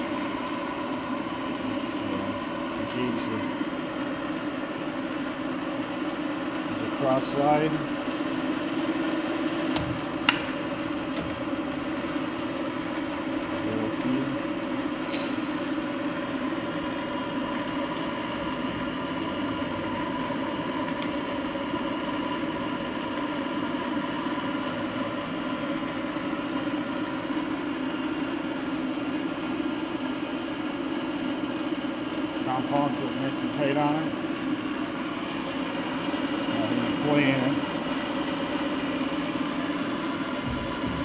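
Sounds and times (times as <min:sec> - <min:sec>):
faint motor whine: 0:00.0 - 0:41.0
lathe running with steady hum: 0:00.0 - 0:41.0.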